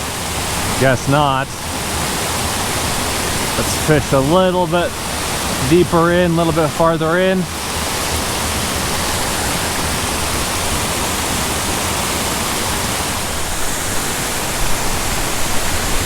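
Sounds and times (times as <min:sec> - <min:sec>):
waterfall pouring into pool: 0:00.0 - 0:16.0.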